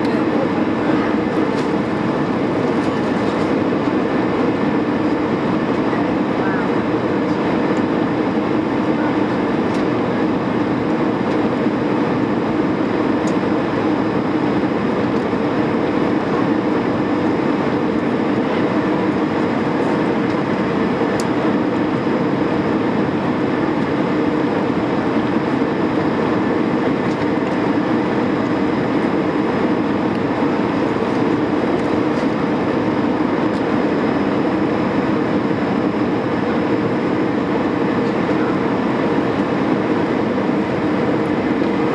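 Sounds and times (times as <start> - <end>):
airplane cabin engine noise: 0.0 - 41.9.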